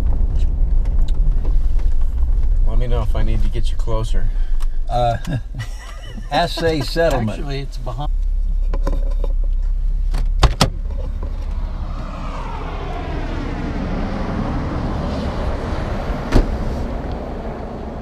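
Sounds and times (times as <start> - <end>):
low rumble: 0.0 - 18.0
outdoor noise: 0.0 - 18.0.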